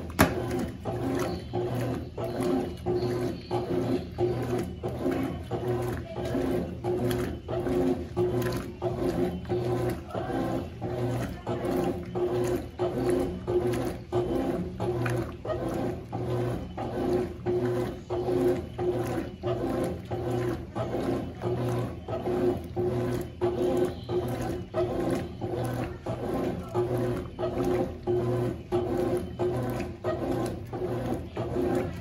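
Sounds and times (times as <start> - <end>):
washing machine agitating: 0.0 - 32.0.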